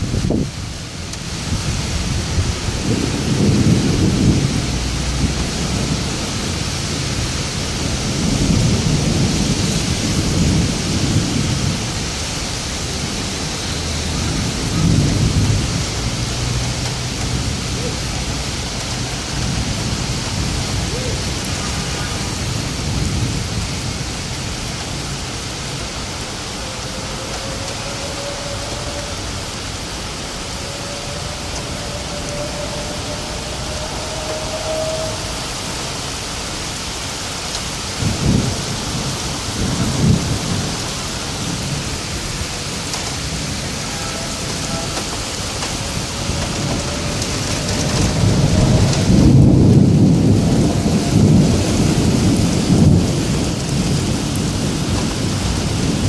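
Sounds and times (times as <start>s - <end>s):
heavy rain falling: 0.0s - 56.0s
thunder rumbles: 0.0s - 56.0s.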